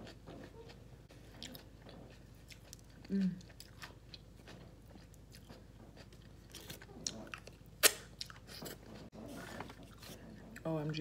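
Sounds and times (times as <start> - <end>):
wet chewing mouth sounds: 0.0 - 10.7.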